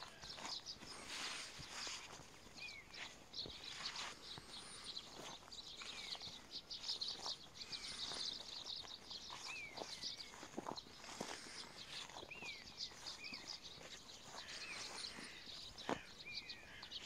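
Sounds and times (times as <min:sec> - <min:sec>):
footsteps in grass: 0:00.0 - 0:17.0
small birds twittering: 0:00.0 - 0:17.0.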